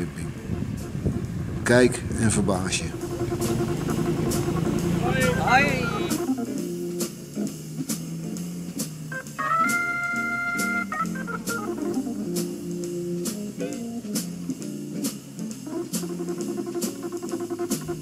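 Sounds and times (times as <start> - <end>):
background music with drum beat: 0.0 - 1.4, 2.8 - 18.0.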